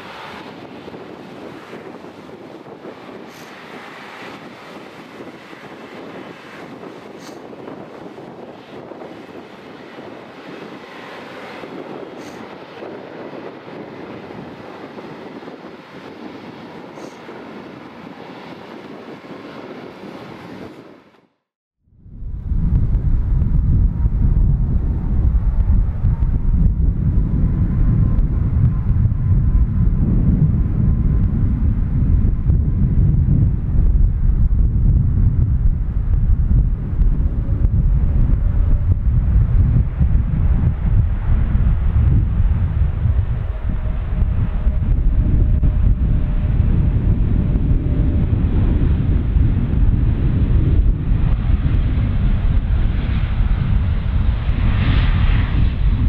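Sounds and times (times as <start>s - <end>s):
jet engines rumbling: 0.0s - 21.4s, 22.0s - 56.0s.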